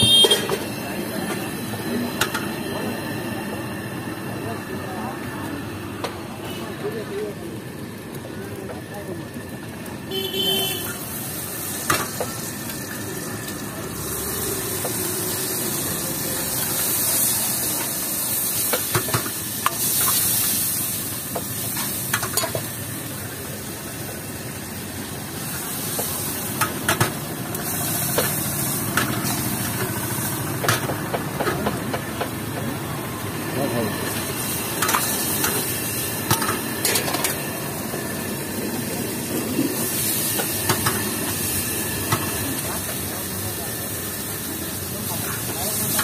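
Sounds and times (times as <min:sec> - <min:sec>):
vegetables sizzling in hot oil: 0:00.0 - 0:46.0.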